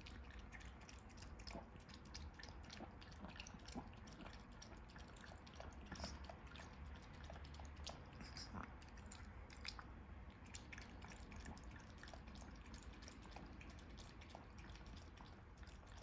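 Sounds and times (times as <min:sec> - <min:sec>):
dog chewing and smacking: 0:00.0 - 0:16.0.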